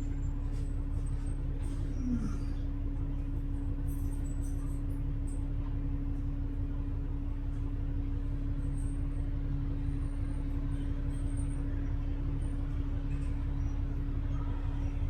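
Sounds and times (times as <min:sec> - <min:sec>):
bus engine and road rumble: 0:00.0 - 0:15.0
constant hum: 0:00.0 - 0:15.0.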